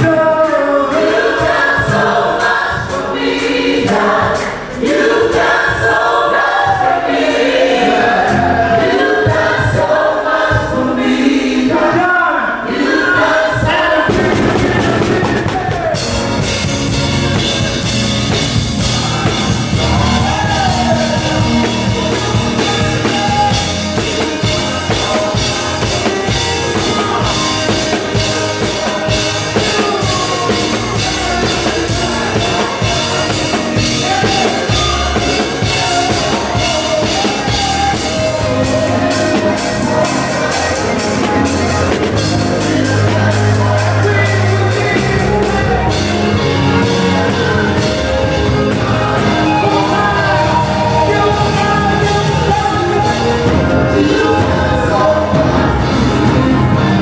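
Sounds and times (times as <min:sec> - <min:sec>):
band with drum kit: 0:00.0 - 0:57.0
voices singing worship music: 0:00.0 - 0:57.0.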